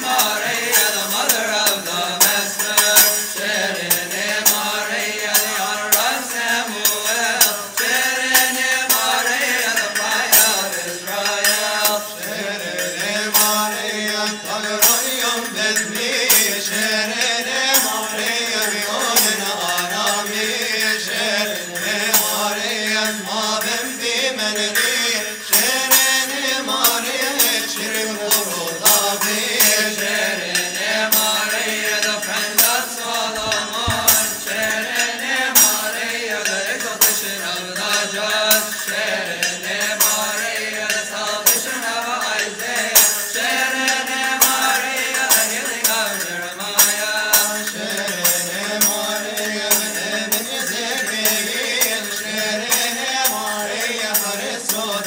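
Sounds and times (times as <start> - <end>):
hand cymbal strikes: 0.0 - 55.0
voices singing a slow hymn: 0.0 - 55.0.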